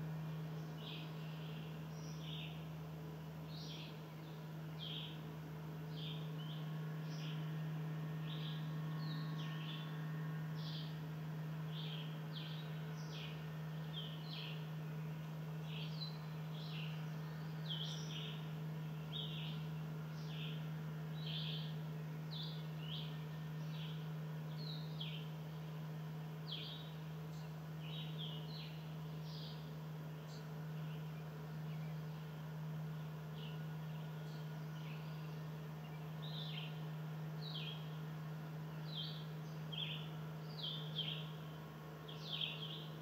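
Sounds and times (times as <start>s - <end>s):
songbirds chirping: 0.0s - 43.0s
steady low hum: 0.0s - 43.0s.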